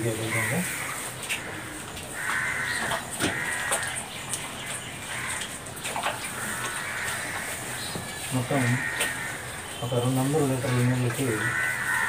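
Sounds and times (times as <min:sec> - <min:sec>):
crows cawing: 0:00.0 - 0:12.0
faint wet squelches: 0:00.3 - 0:12.0.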